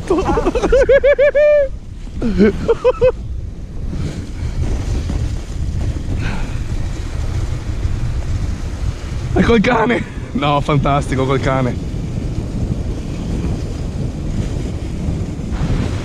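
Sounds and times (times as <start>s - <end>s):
wind on microphone: 0.0s - 16.0s
sled running on packed snow: 2.2s - 16.0s.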